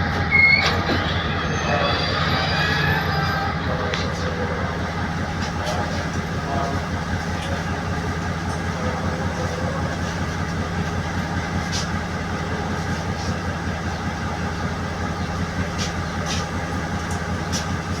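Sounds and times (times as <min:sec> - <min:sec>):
train engine drone: 0:00.0 - 0:18.0.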